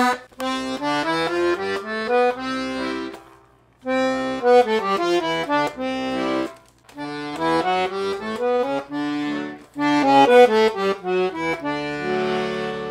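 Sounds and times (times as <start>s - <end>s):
accordion melody with bass chords: 0.0s - 12.9s.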